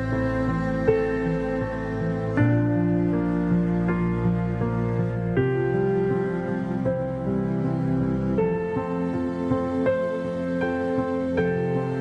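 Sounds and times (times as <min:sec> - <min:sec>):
slow gentle instrumental music: 0:00.0 - 0:12.0.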